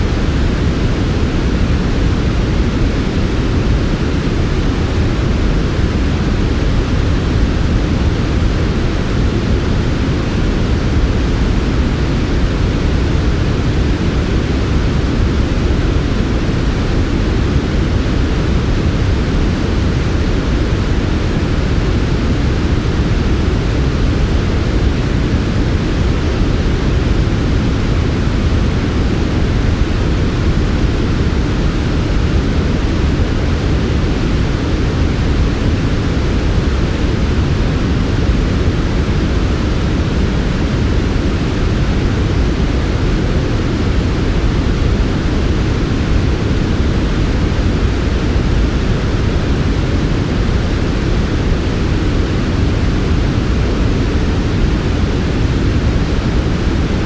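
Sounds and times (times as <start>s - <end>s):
low synthetic noise hiss: 0.0s - 57.0s.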